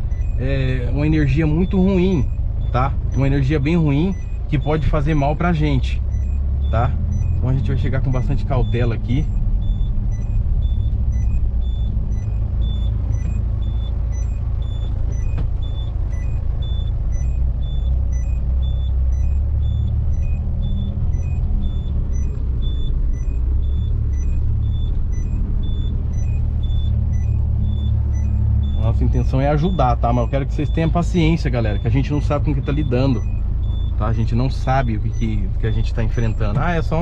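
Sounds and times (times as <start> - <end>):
car engine and tyre rumble: 0.0 - 37.0
faint high beep: 6.1 - 37.0.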